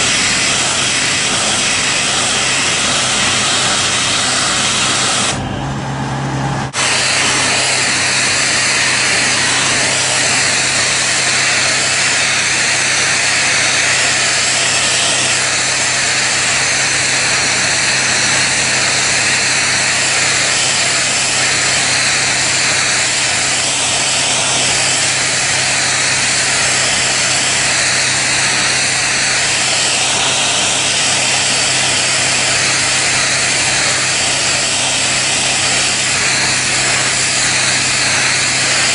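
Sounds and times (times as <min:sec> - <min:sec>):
water jet spray hissing: 0:00.0 - 0:05.4, 0:06.8 - 0:38.9
pump humming: 0:00.0 - 0:38.9.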